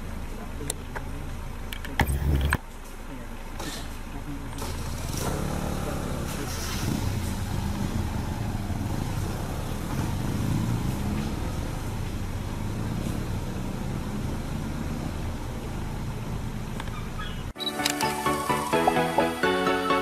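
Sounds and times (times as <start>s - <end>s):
vehicle engine rumbling: 0.0s - 19.4s.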